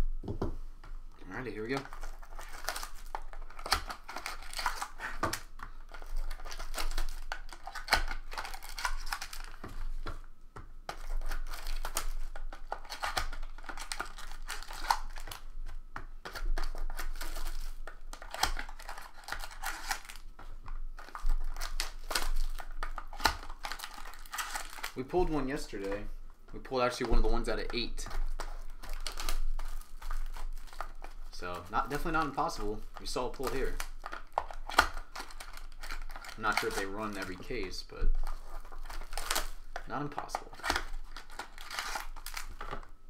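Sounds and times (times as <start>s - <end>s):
plastic wrapping crinkling and tearing: 1.4s - 10.0s, 10.9s - 26.1s, 26.7s - 43.0s.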